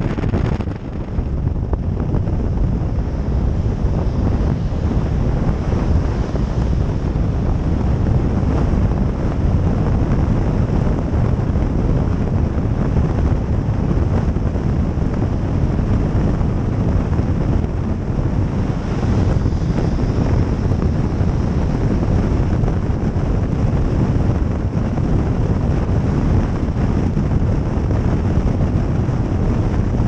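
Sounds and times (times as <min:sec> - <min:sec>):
car road noise: 0:00.0 - 0:30.0
wind buffeting microphone: 0:00.0 - 0:30.0.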